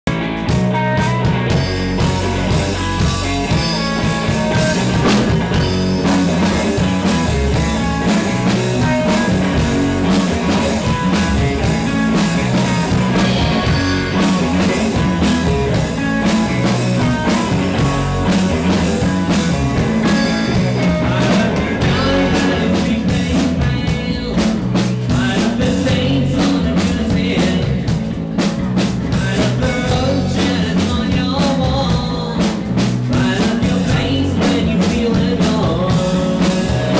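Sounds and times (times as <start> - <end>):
electric bass guitar: 0.0 - 36.9
drum kit: 0.1 - 36.9
electric guitar: 0.1 - 36.9.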